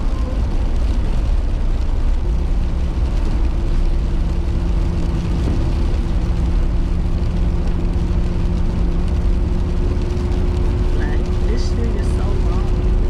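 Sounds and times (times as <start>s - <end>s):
engine and tyres rumbling: 0.0s - 13.0s.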